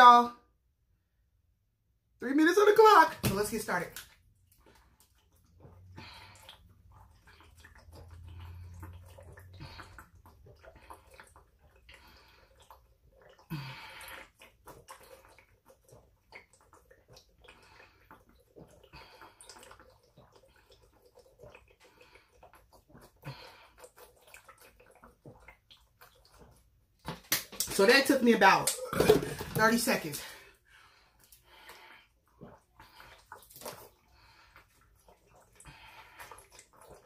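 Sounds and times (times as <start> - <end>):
person gulping water: 3.3 - 37.0.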